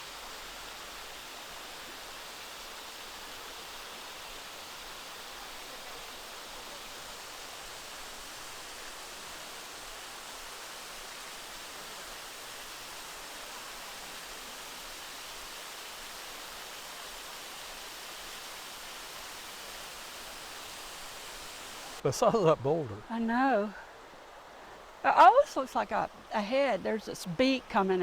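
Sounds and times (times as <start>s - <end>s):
creek water rushing: 0.0s - 28.0s.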